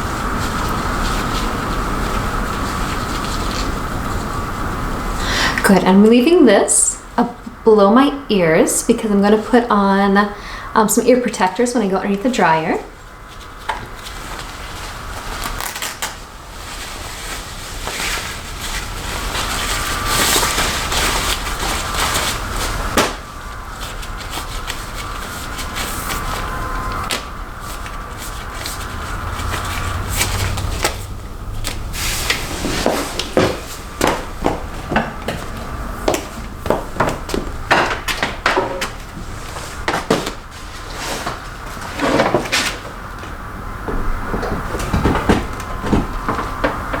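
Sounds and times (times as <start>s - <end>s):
rustling and handling noises: 0.0s - 5.8s, 10.9s - 47.0s.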